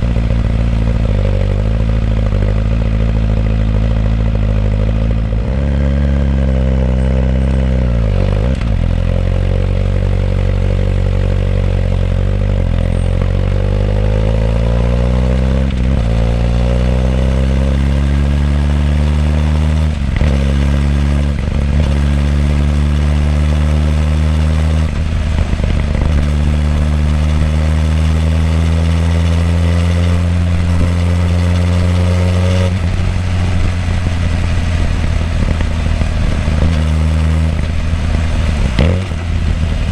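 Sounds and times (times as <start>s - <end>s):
motorcycle exhaust revving: 0.0s - 39.9s.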